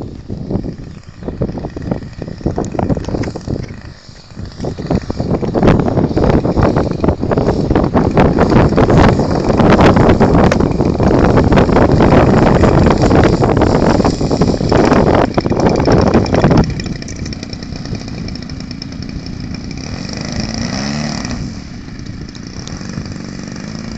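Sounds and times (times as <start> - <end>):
plane engine drone: 0.0 - 23.9
wind buffeting microphone: 0.0 - 23.9.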